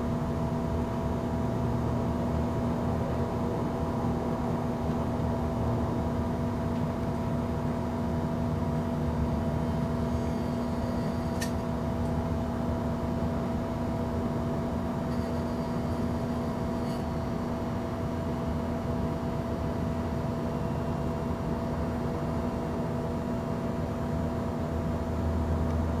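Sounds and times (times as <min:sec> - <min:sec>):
lamp electrical hum: 0:00.0 - 0:26.0.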